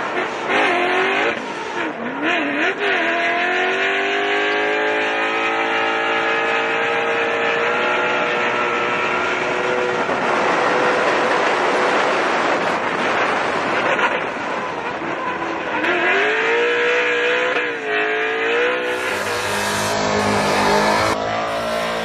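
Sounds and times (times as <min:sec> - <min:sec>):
car engine at high revs: 0:00.0 - 0:22.0
loud tyre noise: 0:00.0 - 0:22.0.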